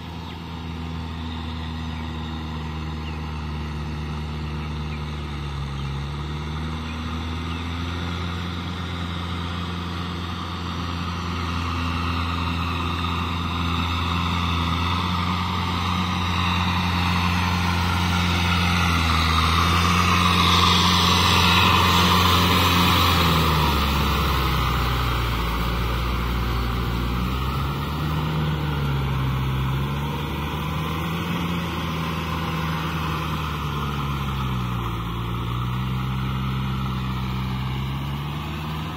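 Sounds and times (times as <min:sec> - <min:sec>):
tiller churning through mud: 0:00.0 - 0:38.9
tractor engine running: 0:00.0 - 0:38.9.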